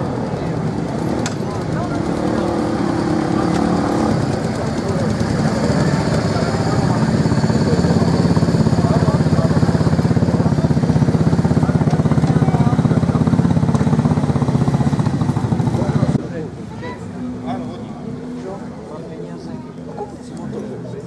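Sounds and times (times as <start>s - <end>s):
motorcycle engines rumbling: 0.0s - 21.0s.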